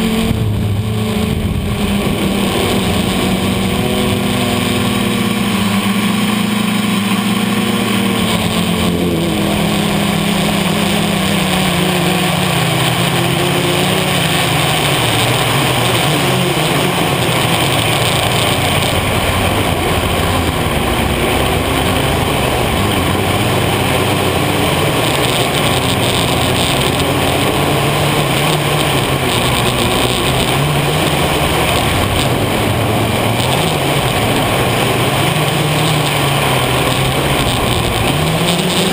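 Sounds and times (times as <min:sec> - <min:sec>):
quadcopter propellers buzzing: 0:00.0 - 0:38.9.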